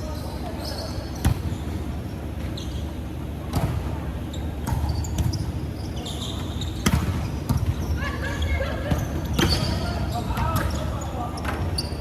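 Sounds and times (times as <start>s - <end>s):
sneakers squeaking on floor: 0.0s - 12.0s.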